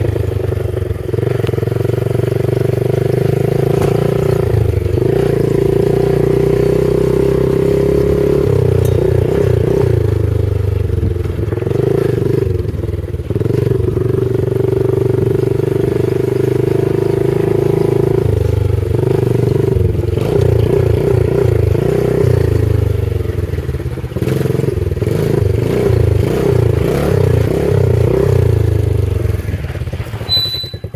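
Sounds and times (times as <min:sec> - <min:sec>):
pit bike engine running: 0:00.0 - 0:30.9.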